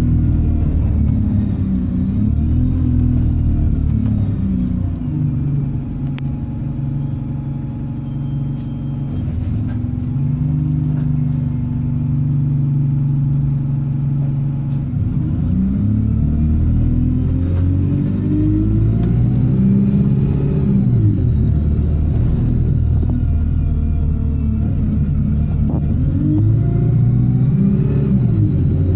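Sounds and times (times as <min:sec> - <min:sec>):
bus diesel engine accelerating: 0:00.0 - 0:28.9
high turbo whine: 0:00.0 - 0:28.9.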